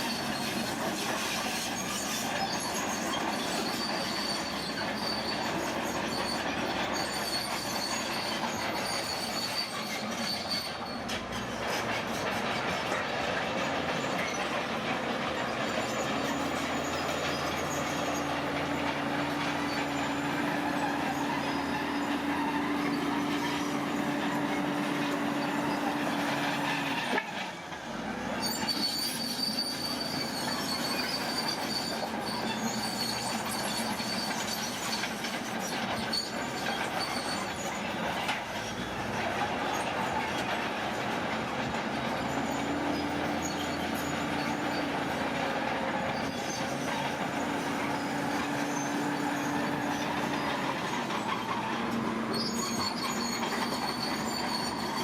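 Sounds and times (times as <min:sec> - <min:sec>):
heavy machinery roaring: 0:00.0 - 0:55.0
high metal squeal: 0:00.0 - 0:55.0.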